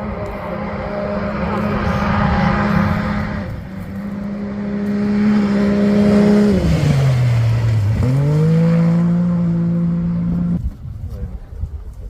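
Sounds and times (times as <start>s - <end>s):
racing engine revving: 0.0s - 10.6s.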